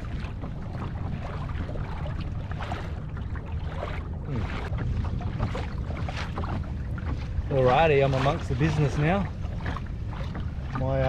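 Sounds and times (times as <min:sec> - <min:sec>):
water splashing around kayak: 0:00.0 - 0:11.0
wind rumbling on microphone: 0:00.0 - 0:11.0.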